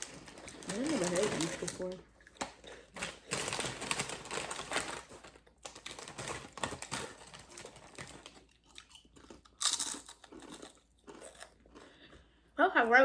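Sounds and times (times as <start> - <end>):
crunching potato chips: 0.0 - 12.3.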